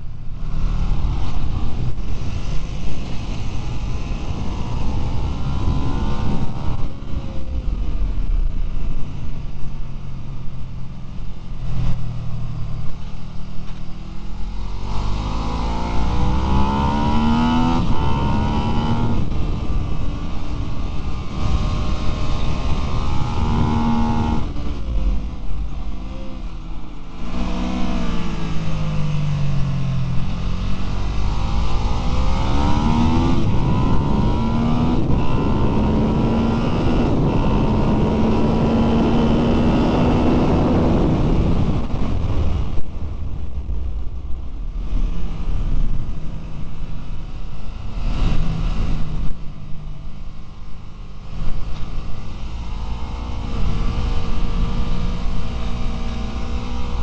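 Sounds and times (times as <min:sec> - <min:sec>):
motorcycle engine revving: 0:00.0 - 0:50.3, 0:50.9 - 0:57.0.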